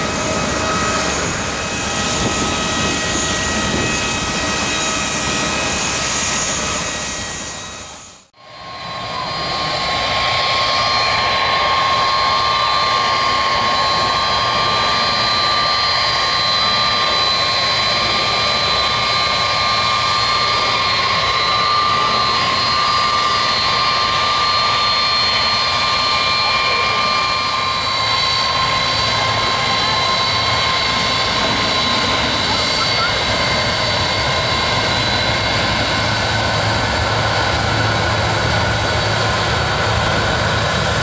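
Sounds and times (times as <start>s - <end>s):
high whining tones: 0.0s - 41.0s
jet engines roaring at takeoff: 0.0s - 41.0s.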